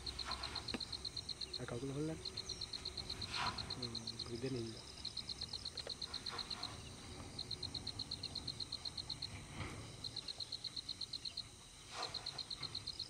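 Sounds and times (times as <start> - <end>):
cricket-like insect calling: 0.0 - 13.0.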